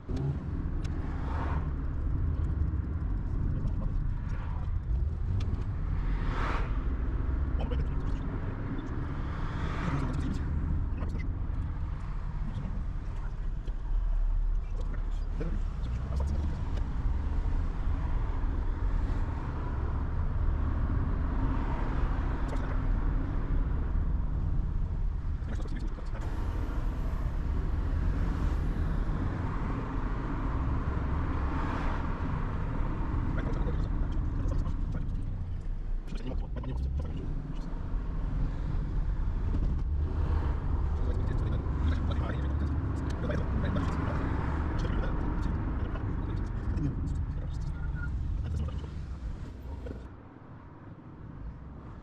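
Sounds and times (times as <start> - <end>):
car engine and road rumble: 0.0 - 52.0.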